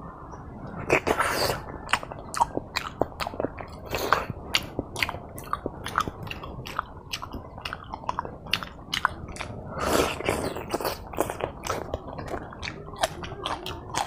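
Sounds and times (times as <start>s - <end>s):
mouth chewing with wet smacks: 0.8s - 14.0s.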